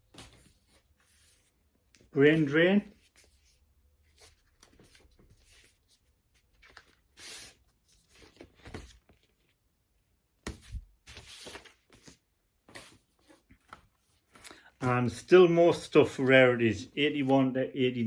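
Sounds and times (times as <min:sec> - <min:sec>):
cardboard sleeves rustling: 0:00.0 - 0:17.6.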